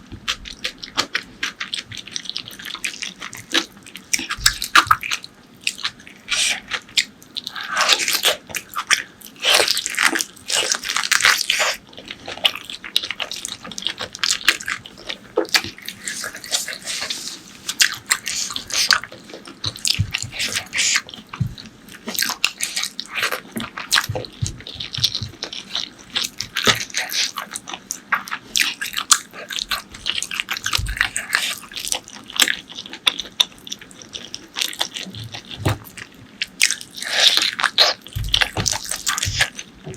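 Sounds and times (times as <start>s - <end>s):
wet chewing and smacking: 0.0s - 39.9s.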